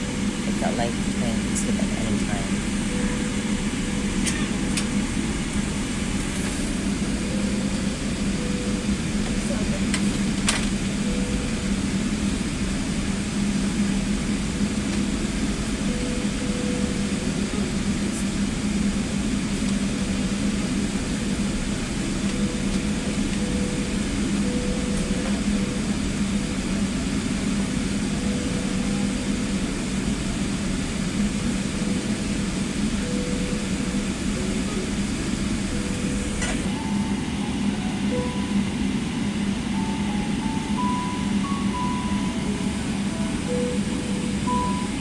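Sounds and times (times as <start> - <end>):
constant low hum: 0.0 - 45.0
jet airliner cabin noise: 0.0 - 45.0.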